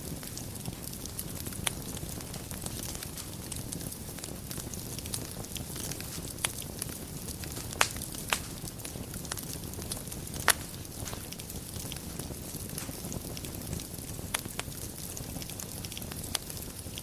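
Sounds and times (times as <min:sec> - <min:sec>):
low fire rumble: 0:00.0 - 0:17.0
sharp fire pops: 0:00.0 - 0:17.0
wood fire crackling: 0:00.0 - 0:17.0.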